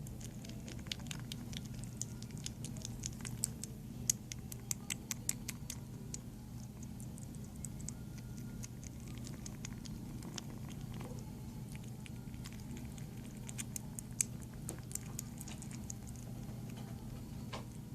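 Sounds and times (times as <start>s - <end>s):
kitten chewing clicks: 0.0s - 17.9s
steady low hum: 0.0s - 17.9s.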